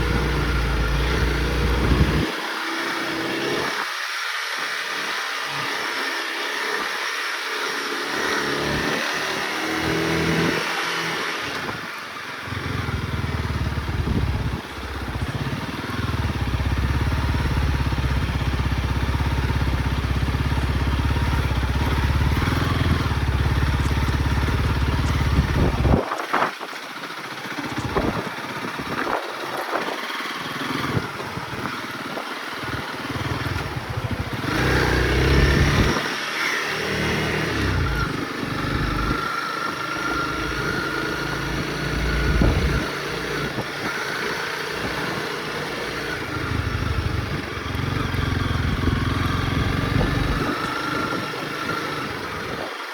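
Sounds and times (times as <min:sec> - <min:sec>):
motorcycle engine running: 0:00.0 - 0:03.9, 0:07.4 - 0:52.9
constant rushing noise: 0:00.0 - 0:52.9.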